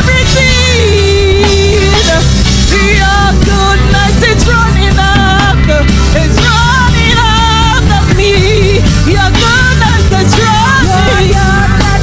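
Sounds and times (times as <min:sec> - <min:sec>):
full band playing gospel music: 0:00.0 - 0:12.0.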